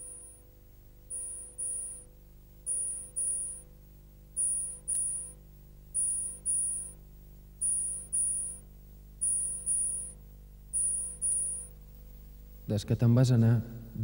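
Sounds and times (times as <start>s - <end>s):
insect chirping: 0.0s - 12.6s
faint low hum: 0.0s - 14.0s.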